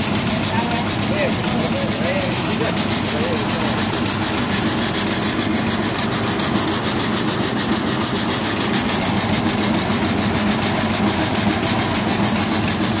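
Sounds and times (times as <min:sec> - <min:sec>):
fast even rattle: 0:00.0 - 0:13.0
milling machine humming: 0:00.0 - 0:13.0.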